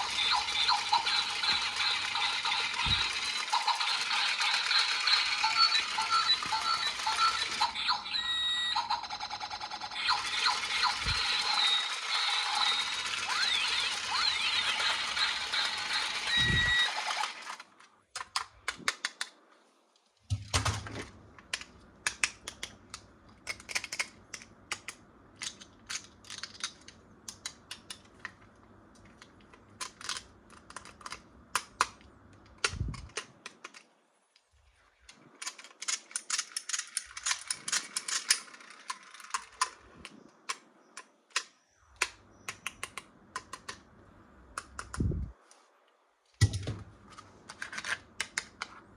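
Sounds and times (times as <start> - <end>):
plastic toy parts clicking: 0.0 - 8.0, 8.8 - 19.4, 21.4 - 33.9, 35.0 - 43.8, 44.5 - 45.1, 47.5 - 48.8.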